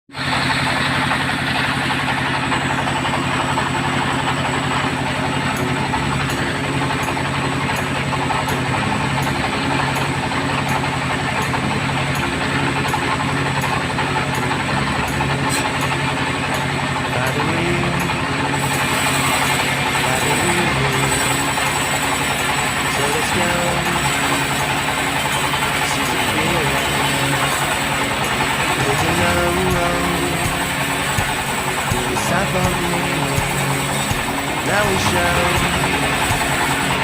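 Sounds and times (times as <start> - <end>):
bandsaw machinery running: 0.1 - 37.0.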